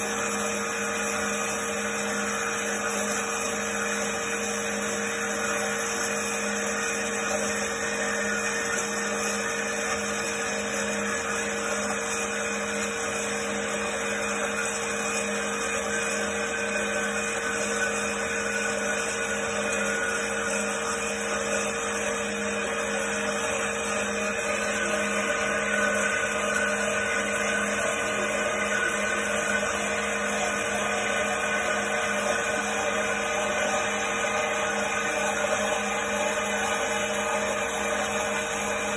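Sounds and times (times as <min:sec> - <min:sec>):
band saw cutting steel tube: 0:00.0 - 0:38.9.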